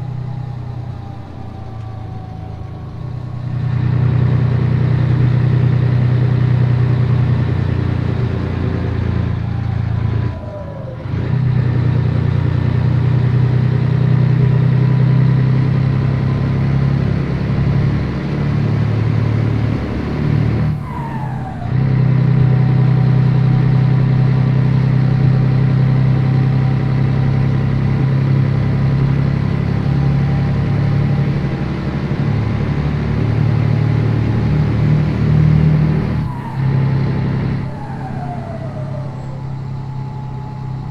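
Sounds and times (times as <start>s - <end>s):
diesel truck engine under load: 0.0s - 40.9s
falling engine whine: 0.0s - 40.9s.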